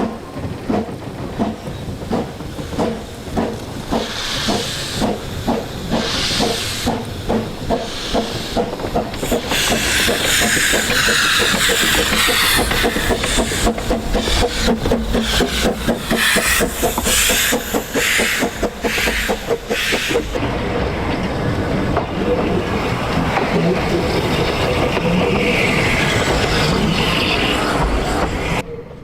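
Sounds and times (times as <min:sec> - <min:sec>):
steam locomotive exhaust beats: 0:00.0 - 0:28.6
steam hissing: 0:00.8 - 0:20.4, 0:22.5 - 0:28.6.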